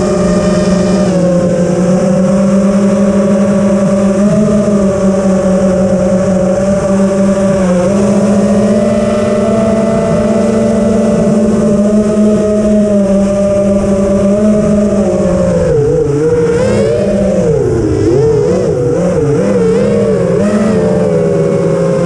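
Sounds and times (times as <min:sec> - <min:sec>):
motor humming: 0:00.0 - 0:22.0.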